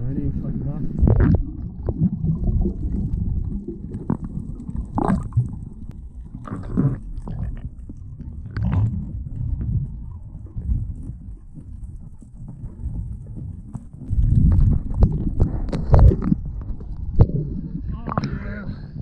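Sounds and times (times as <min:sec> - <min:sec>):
muffled underwater rumble: 0:00.0 - 0:19.0
bubbles and splashing: 0:00.9 - 0:19.0.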